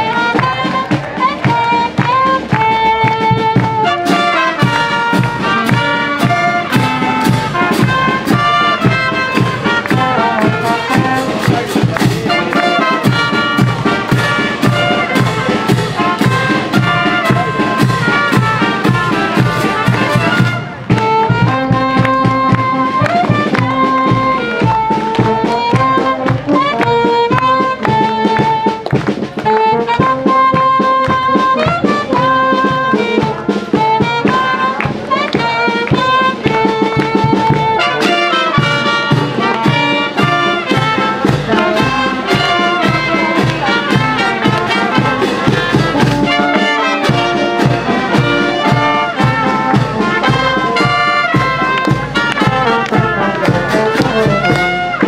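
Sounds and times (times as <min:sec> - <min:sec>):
brass band playing melody: 0:00.0 - 0:55.0
steady beat: 0:00.0 - 0:55.0.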